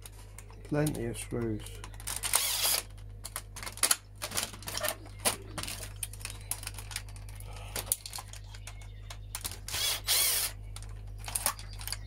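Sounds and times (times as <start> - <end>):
plastic parts and screws clicking: 0.7 - 12.0.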